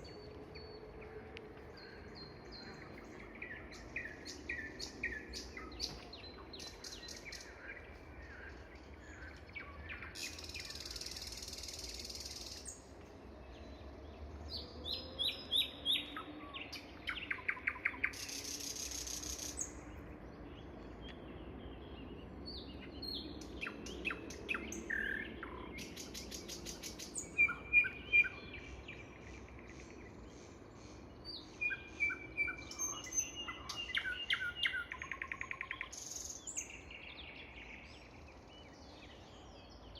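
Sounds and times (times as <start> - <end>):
nightingale singing: 0.0 - 12.9, 14.5 - 20.0, 22.5 - 30.3, 31.0 - 39.9.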